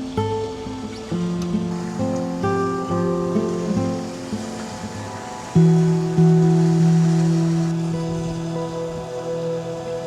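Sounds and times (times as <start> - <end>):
plucked guitar chords ringing: 0.0 - 10.0.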